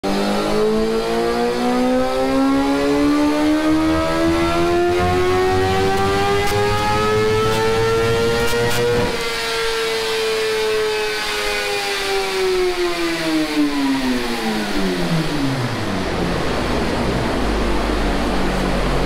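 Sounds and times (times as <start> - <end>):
motorcycle engine at full throttle: 0.0 - 19.0.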